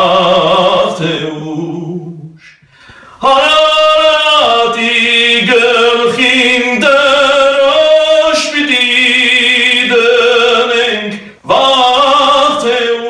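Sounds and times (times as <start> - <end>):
man singing unaccompanied: 0.0 - 2.6, 3.2 - 13.0.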